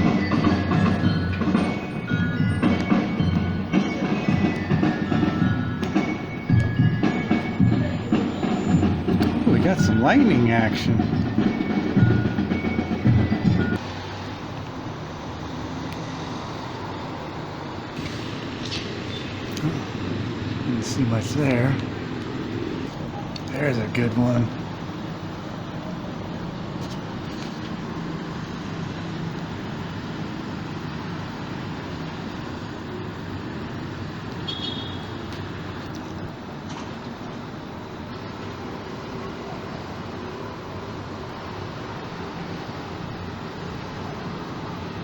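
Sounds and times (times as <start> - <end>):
city traffic noise: 0.0 - 45.0.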